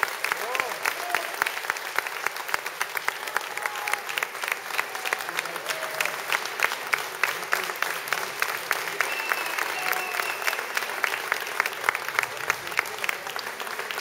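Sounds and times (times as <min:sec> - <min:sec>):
audience clapping: 0:00.0 - 0:14.0.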